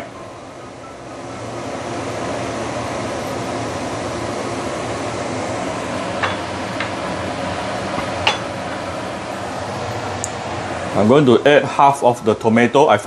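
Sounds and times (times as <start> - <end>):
broth boiling in a wok: 0.0 - 13.0.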